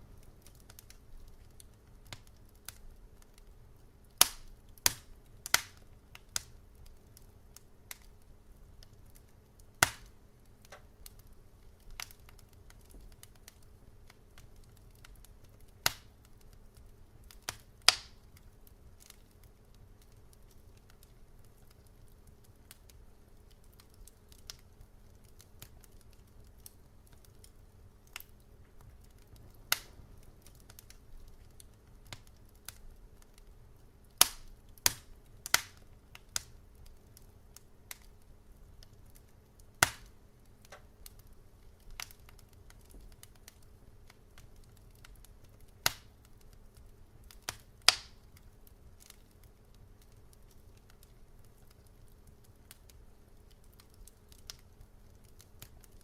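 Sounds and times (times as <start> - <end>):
faint low hum: 0.0 - 56.0
wood fire crackling: 0.0 - 56.0.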